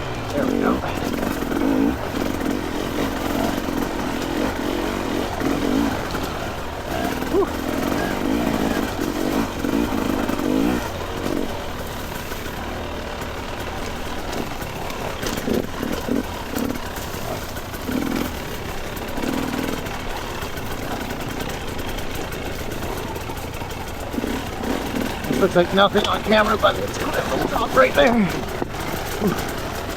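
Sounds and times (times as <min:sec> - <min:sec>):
dirt bike engine: 0:00.0 - 0:29.9.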